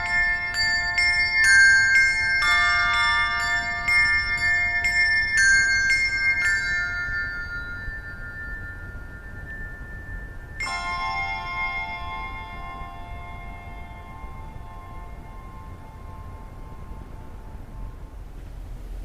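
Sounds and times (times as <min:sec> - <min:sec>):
handbell choir ringing: 0:00.0 - 0:17.9.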